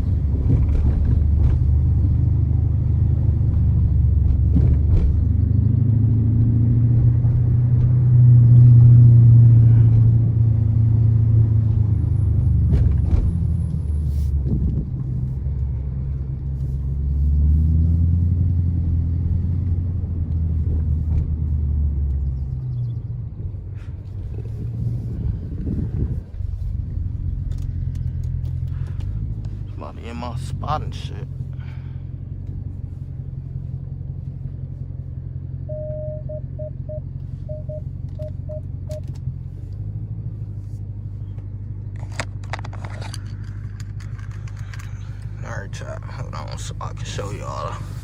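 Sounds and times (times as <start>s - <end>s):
car engine and exhaust rumbling: 0.0s - 48.0s.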